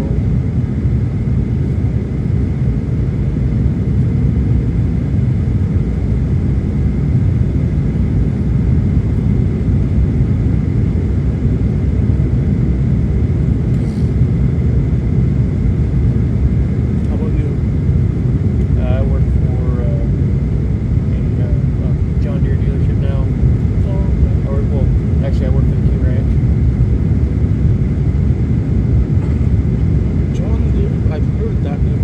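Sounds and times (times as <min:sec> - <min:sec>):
jet engine roar inside cabin: 0:00.0 - 0:32.0.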